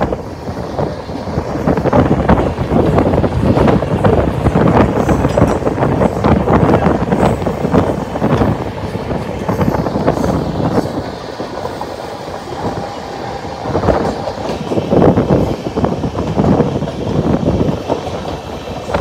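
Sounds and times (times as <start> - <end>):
train rumble: 0.0 - 19.0
wheels clattering over rail joints: 0.0 - 19.0.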